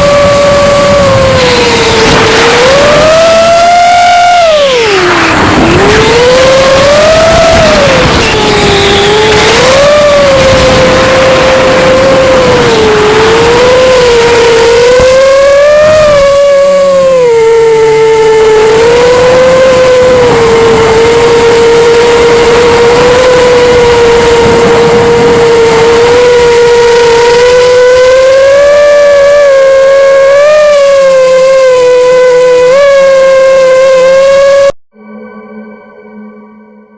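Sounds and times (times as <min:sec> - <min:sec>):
drone motors whining: 0:00.0 - 0:34.8
wind noise on microphone: 0:00.0 - 0:34.8.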